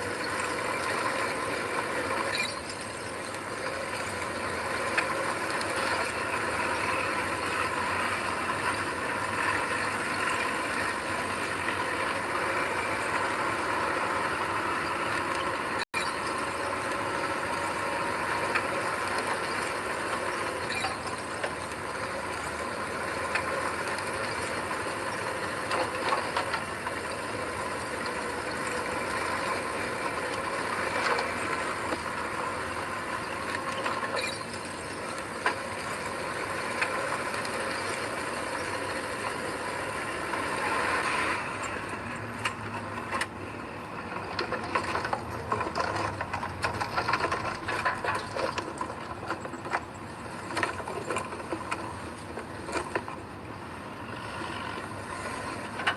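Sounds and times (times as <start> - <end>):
heavy machinery engine running: 0.0 - 55.9.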